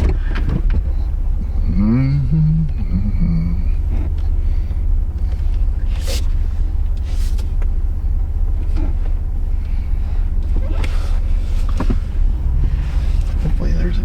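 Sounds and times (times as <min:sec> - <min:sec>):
truck road and engine drone: 0:00.0 - 0:14.0.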